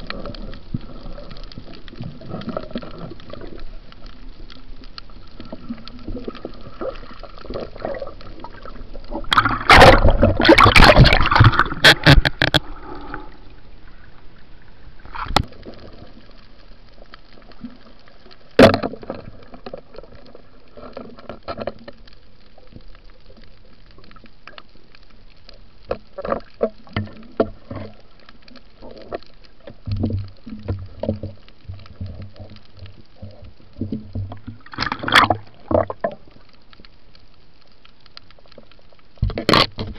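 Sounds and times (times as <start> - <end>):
rush of splashing water: 0.0 - 37.0
water sloshing and gurgling: 0.0 - 39.9.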